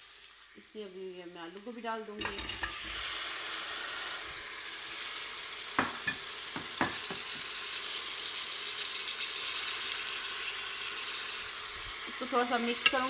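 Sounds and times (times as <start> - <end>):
masala sizzling in ghee: 0.0 - 13.0.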